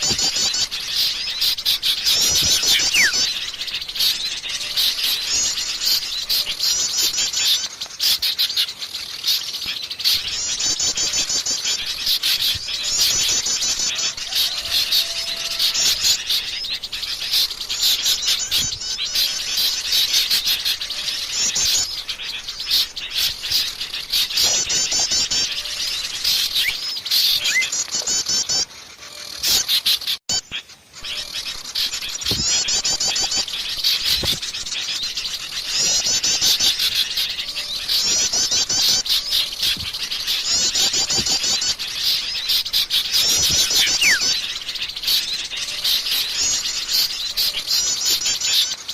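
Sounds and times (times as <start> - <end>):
forest birds singing: 0.0 - 48.9.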